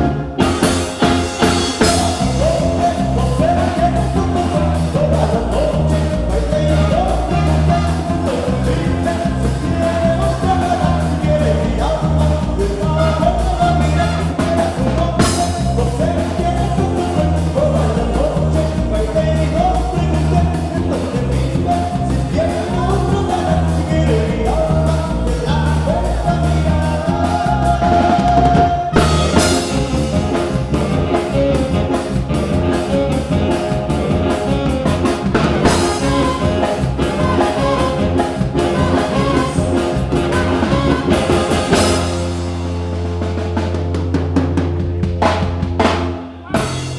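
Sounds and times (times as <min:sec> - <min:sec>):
person singing: 0:00.0 - 0:42.8
band playing a song: 0:00.0 - 0:46.9
drum kit and bass beat: 0:00.0 - 0:46.9.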